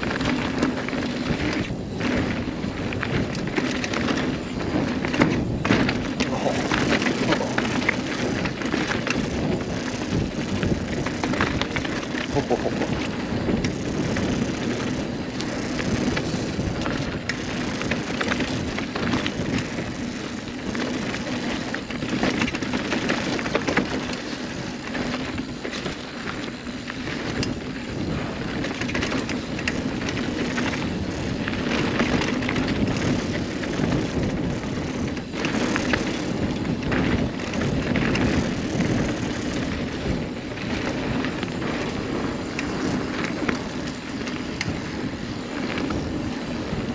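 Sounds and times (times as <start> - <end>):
bike rattling over bumps: 0.0 - 46.9
bike tyres rolling on dirt: 0.0 - 46.9.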